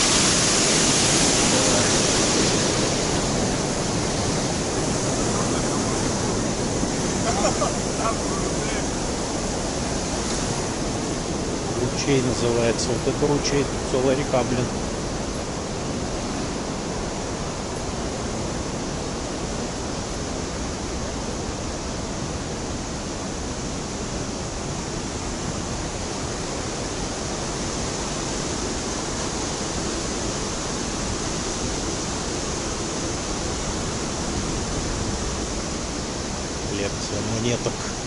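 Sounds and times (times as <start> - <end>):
water rushing in stone channel: 0.0 - 38.0.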